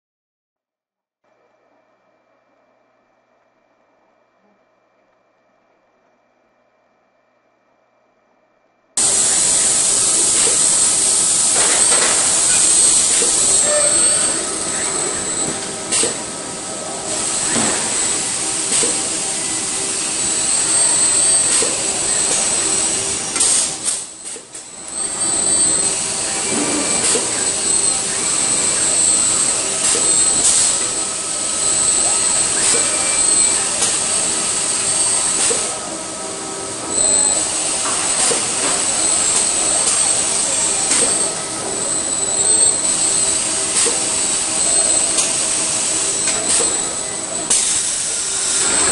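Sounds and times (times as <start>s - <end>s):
industrial robots hissing and humming: 9.0s - 48.9s
steady whining tones: 9.0s - 48.9s.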